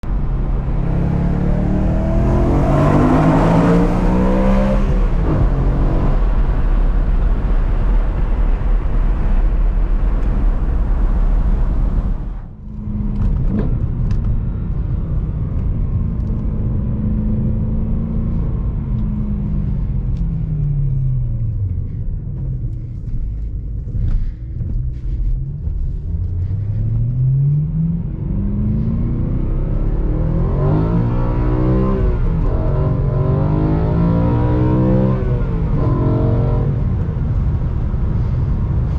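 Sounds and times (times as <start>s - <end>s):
car engine revving: 0.0s - 24.3s, 24.9s - 38.9s.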